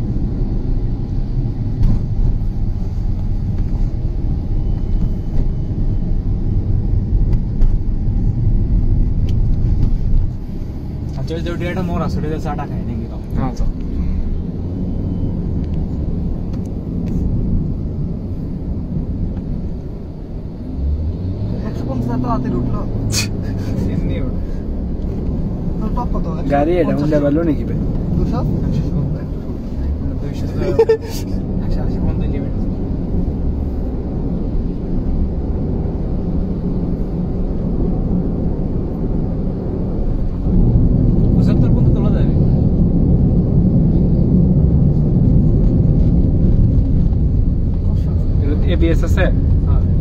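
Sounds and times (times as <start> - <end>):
car interior road rumble: 0.0 - 50.0.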